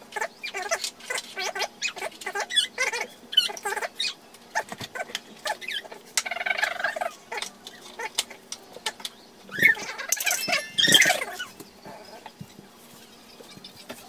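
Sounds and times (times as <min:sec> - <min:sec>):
small animal chirping and squeaking: 0:00.1 - 0:14.0.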